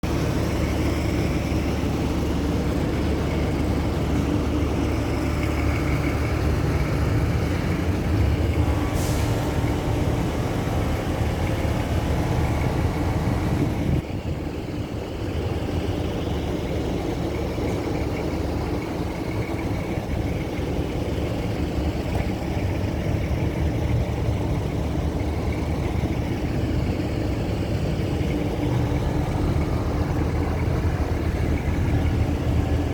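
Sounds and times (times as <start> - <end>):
heavy engine rumbling: 0.0 - 32.9.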